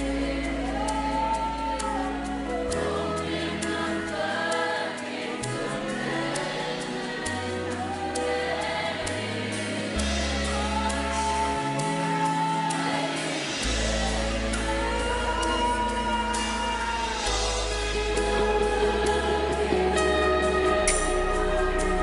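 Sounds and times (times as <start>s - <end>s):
band playing slow chords: 0.0s - 22.0s
bass notes: 0.0s - 22.0s.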